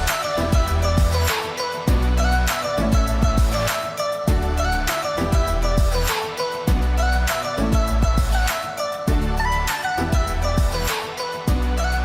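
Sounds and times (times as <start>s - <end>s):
background music with bass beat: 0.0s - 12.0s.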